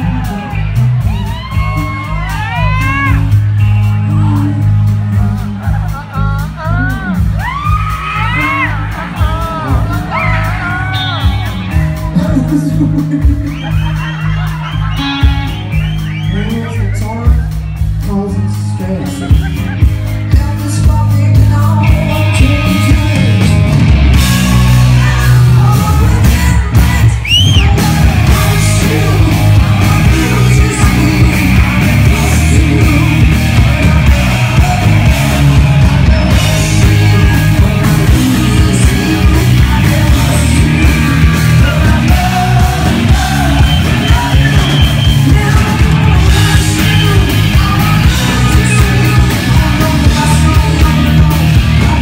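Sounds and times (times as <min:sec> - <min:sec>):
distorted electric guitar: 0:00.0 - 0:52.0
drum kit: 0:00.0 - 0:52.0
singer yelling and singing: 0:00.0 - 0:52.0.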